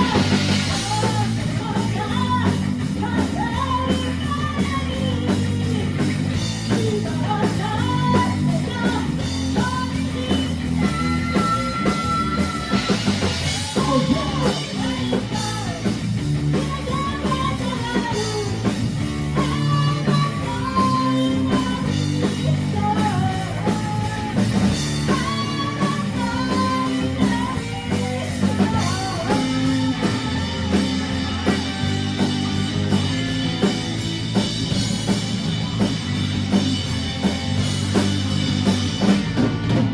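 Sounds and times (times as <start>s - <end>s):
person singing: 0.0s - 33.0s
drum kit: 0.0s - 39.9s
electric guitar: 0.0s - 39.9s.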